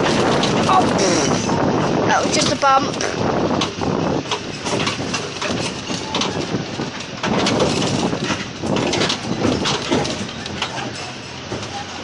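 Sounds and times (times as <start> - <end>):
carriage rattling and clattering: 0.0 - 12.0
steady running noise: 0.0 - 12.0.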